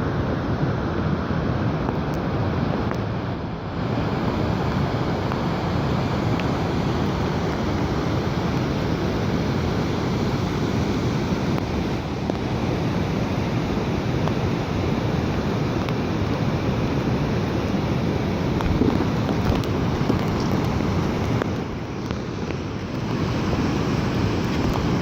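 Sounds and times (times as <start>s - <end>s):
water rushing in heavy rain: 0.0s - 25.0s.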